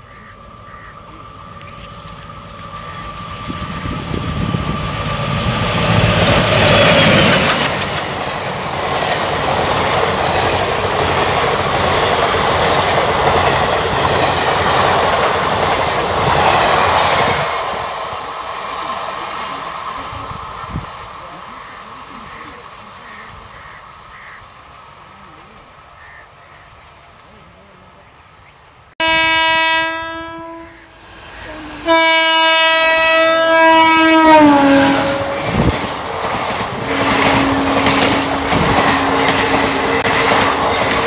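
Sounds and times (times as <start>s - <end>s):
train passing at speed: 0.0s - 41.0s.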